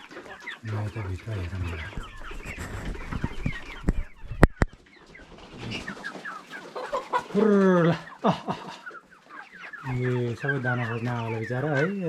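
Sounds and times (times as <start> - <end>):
chicken drawn-out call: 0.0 - 12.0
chickens clucking: 0.0 - 12.0.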